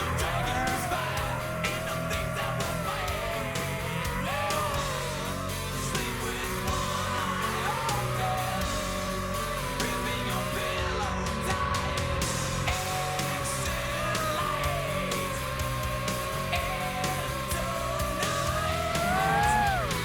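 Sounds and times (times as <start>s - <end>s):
rock music with singing: 0.0s - 20.0s.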